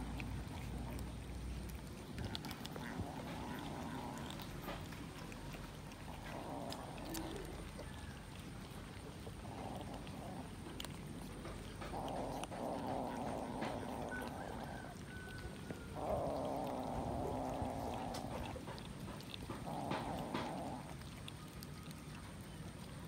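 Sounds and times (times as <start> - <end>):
cats chewing wetly: 0.0 - 23.0.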